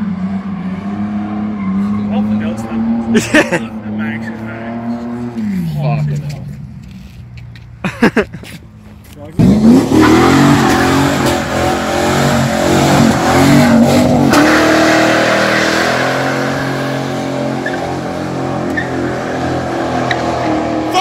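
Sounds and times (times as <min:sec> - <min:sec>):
car engine revving hard: 0:00.0 - 0:05.8, 0:09.4 - 0:21.0
tyres skidding: 0:00.0 - 0:21.0.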